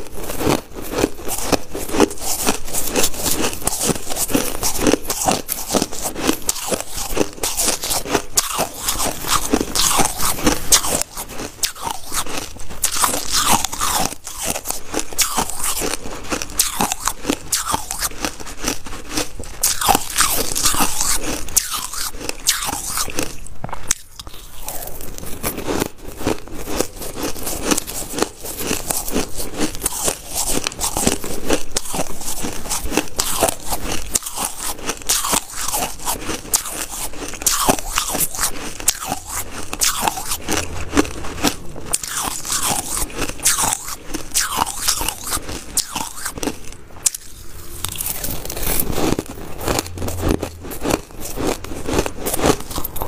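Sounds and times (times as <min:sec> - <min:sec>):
crushed ice crunching: 0:00.0 - 0:53.0.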